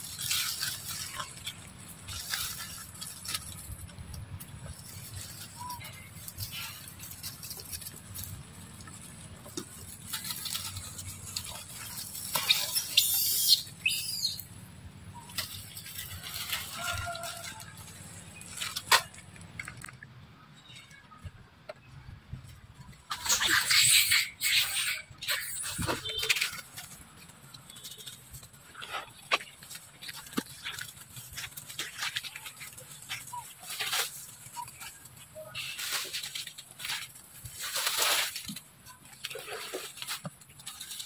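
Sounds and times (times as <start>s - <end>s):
leaves and twigs rustling: 0.0s - 41.0s.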